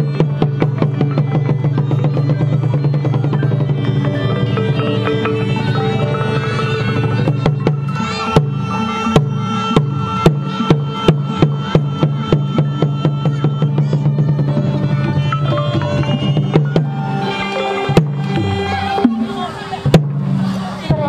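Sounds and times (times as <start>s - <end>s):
held melodic tones: 0.0s - 21.0s.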